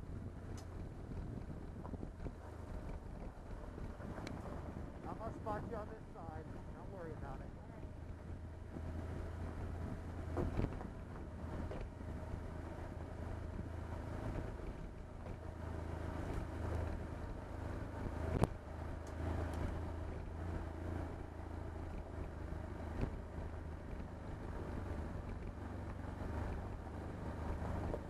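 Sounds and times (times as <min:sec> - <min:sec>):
motorcycle engine running: 0:00.0 - 0:28.0
tyre and road noise: 0:00.0 - 0:28.0.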